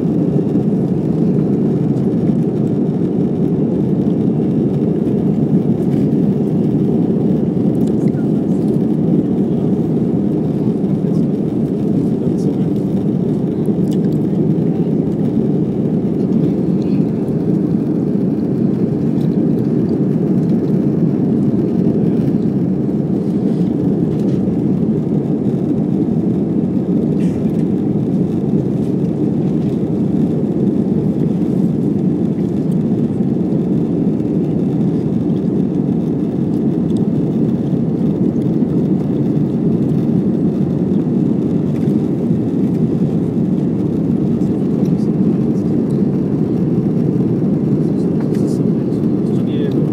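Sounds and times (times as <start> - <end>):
jet engine rumble in cabin: 0.0 - 49.9.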